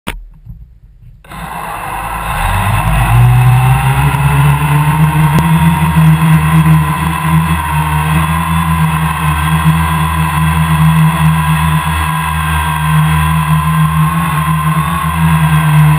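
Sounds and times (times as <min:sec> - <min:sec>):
quadcopter motors whining: 0:01.3 - 0:15.9.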